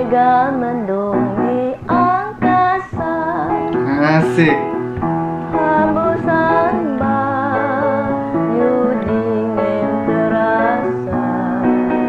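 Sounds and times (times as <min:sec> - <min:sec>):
woman singing slow song: 0:00.0 - 0:03.9, 0:05.5 - 0:12.0
piano accompaniment: 0:00.0 - 0:12.0.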